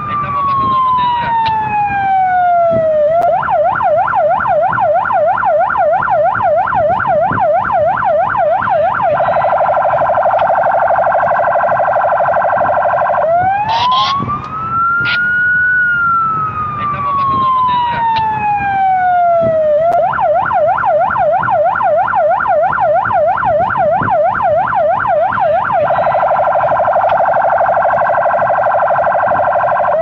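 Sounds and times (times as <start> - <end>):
police siren wail and yelp: 0.0 - 30.0.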